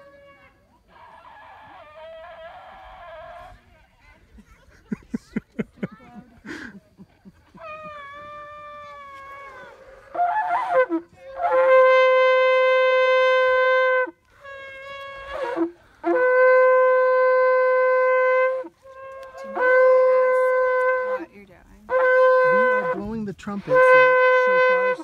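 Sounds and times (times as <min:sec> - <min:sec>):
shofar blasts: 0:00.0 - 0:03.6, 0:07.6 - 0:25.0.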